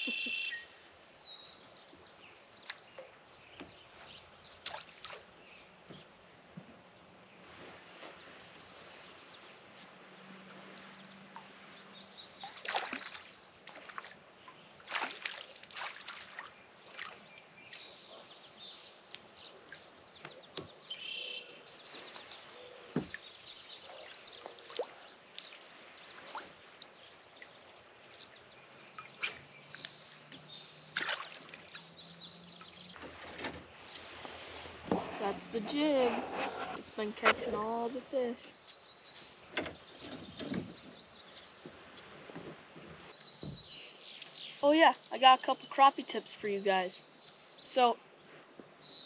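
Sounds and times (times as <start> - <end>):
water sloshing and trickling: 1.6 - 21.0, 21.8 - 43.8.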